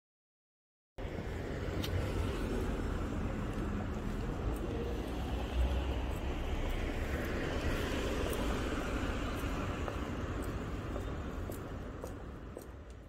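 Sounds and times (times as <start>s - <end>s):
cars driving past: 1.0s - 13.0s.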